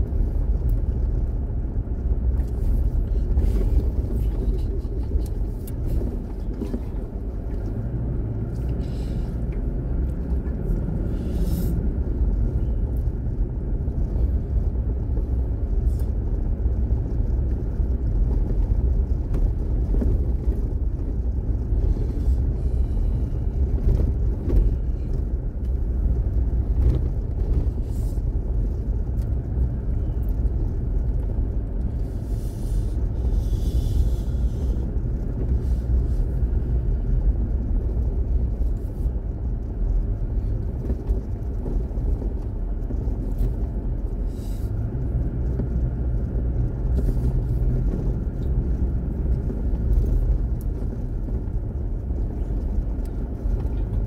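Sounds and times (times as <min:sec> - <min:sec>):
vehicle rumbling on dirt road: 0:00.0 - 0:54.0.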